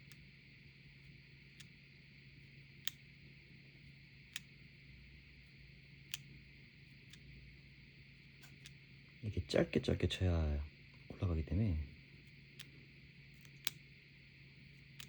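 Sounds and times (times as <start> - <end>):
faint hum and hiss: 0.0 - 15.0.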